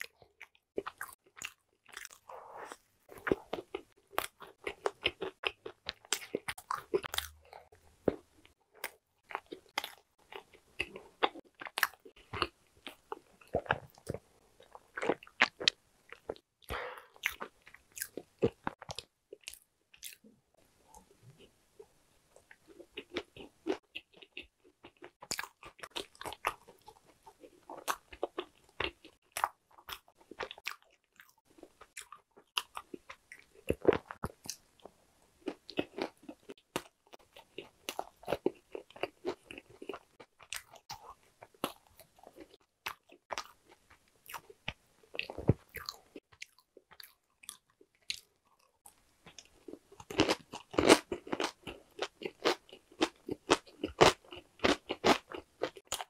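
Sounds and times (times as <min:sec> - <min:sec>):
crunchy chewing: 0:00.0 - 0:20.2, 0:22.4 - 0:56.0.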